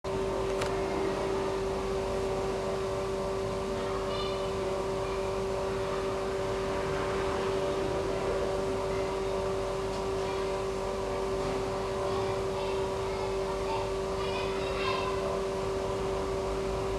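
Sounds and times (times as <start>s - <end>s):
motor humming steadily: 0.1s - 16.9s.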